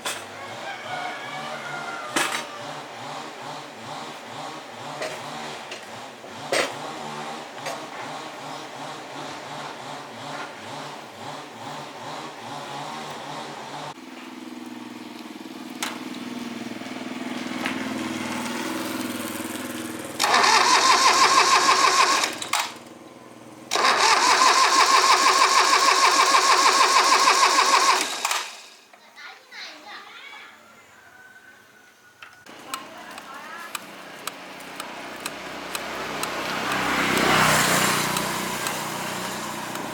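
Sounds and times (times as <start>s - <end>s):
small engine running: 0.4s - 28.9s, 32.5s - 39.9s.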